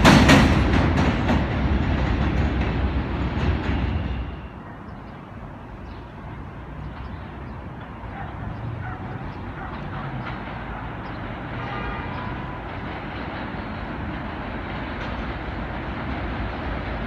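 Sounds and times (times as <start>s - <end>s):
city background noise: 0.0s - 17.0s
subway train rumble: 0.0s - 17.0s.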